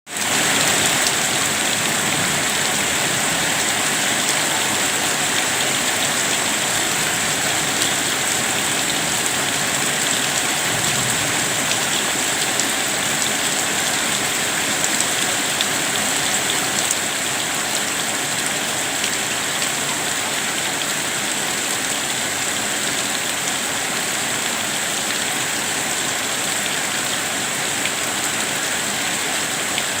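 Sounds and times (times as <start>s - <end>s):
rain pattering: 0.1s - 30.0s.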